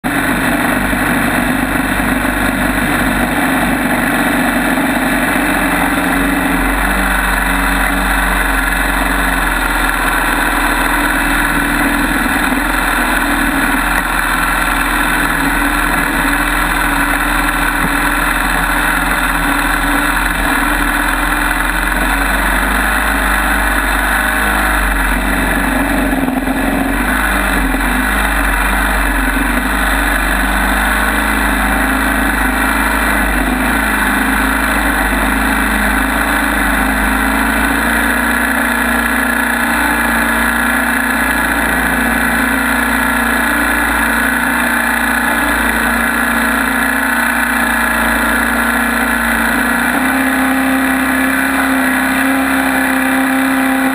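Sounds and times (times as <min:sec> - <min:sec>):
boat motor running: 0:00.0 - 0:53.9
propeller churning water: 0:00.0 - 0:53.9.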